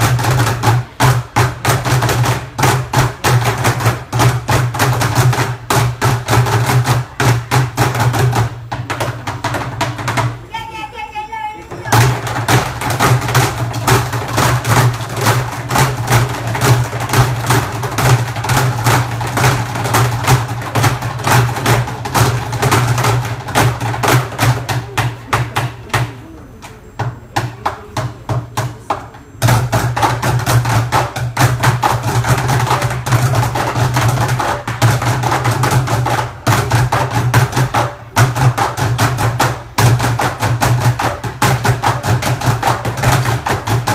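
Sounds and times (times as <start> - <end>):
group drumming: 0.0 - 43.9.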